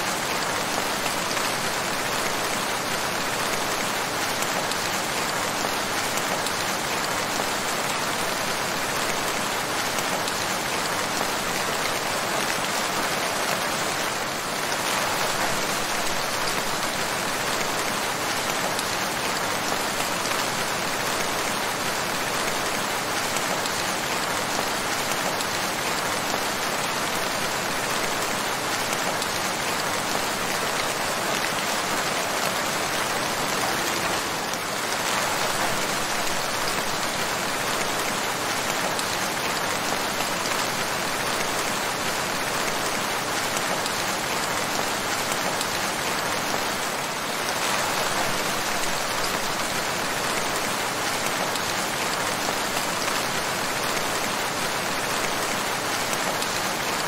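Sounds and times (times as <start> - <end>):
dense rain pattering: 0.0 - 57.0.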